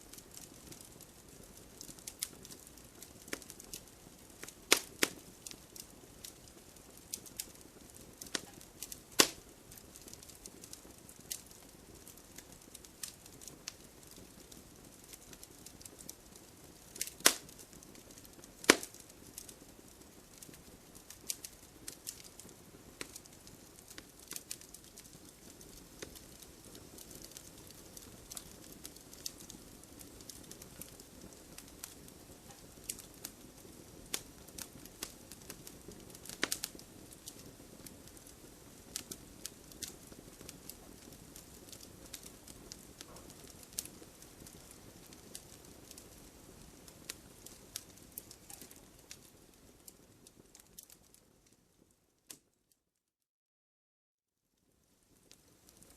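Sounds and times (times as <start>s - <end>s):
logs crackling in fireplace: 0.0s - 52.5s, 54.9s - 55.9s.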